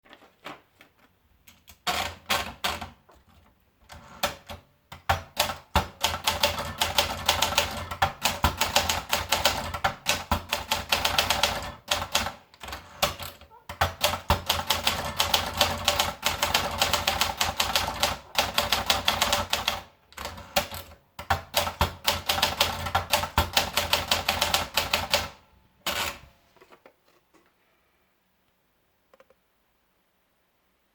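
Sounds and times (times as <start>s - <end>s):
typewriter typing: 1.5s - 26.3s.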